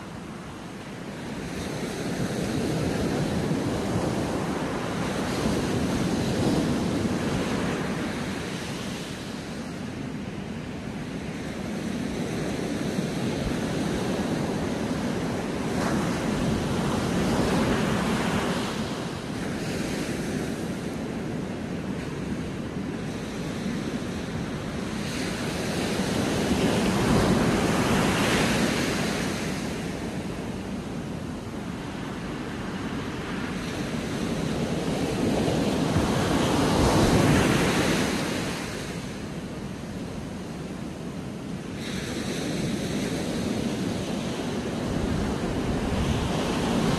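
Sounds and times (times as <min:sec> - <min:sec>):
sea surf breaking on beach: 0:00.0 - 0:46.9.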